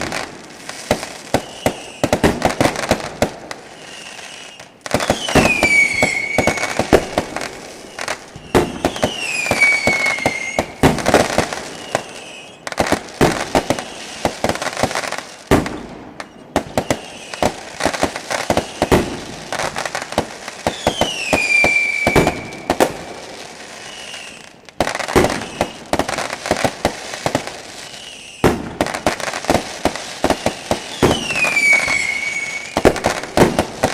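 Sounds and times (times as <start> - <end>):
falling firework whistles: 0.0 - 33.9
fireworks crackling and popping: 0.0 - 33.9.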